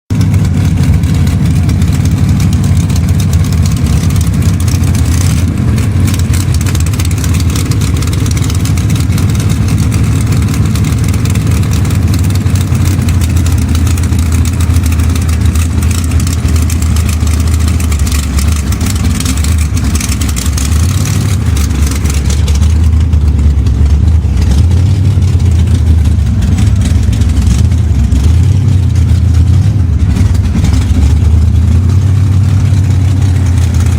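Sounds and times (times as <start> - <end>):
drag car engine rumbling: 0.1 - 33.9.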